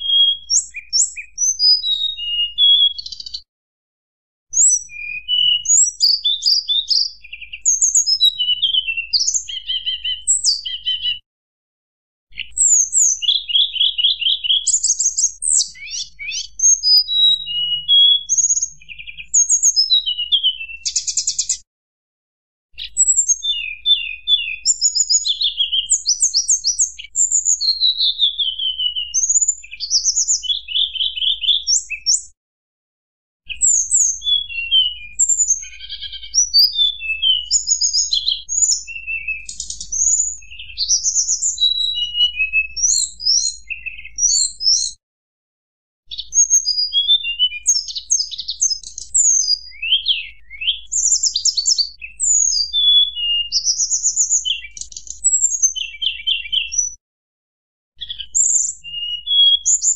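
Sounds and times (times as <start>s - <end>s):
songbird whistling and trilling: 0.0s - 3.5s, 4.5s - 11.2s, 12.3s - 21.6s, 22.8s - 32.4s, 33.5s - 45.0s, 46.1s - 57.0s, 58.0s - 59.9s.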